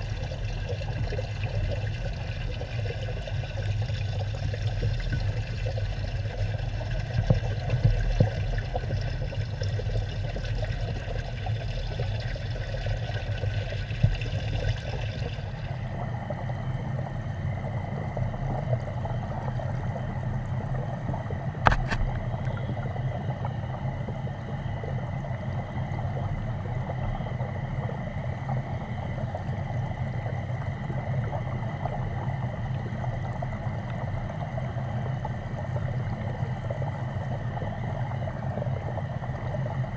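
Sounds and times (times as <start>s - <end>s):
water rushing into fish tank: 0.0s - 39.9s.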